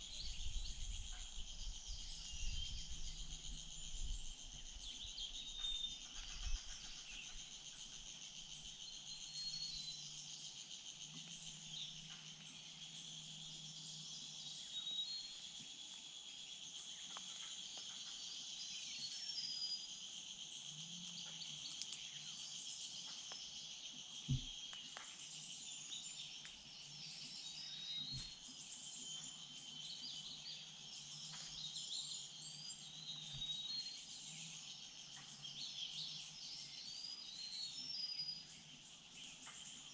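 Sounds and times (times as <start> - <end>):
bird chirps: 0.0 - 19.9, 20.6 - 39.9
insects chirping: 0.0 - 39.9.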